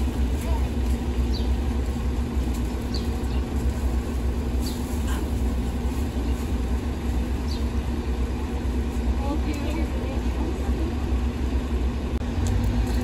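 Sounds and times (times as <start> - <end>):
street traffic rumble: 0.0 - 13.0
vehicle engine idling: 0.0 - 13.0.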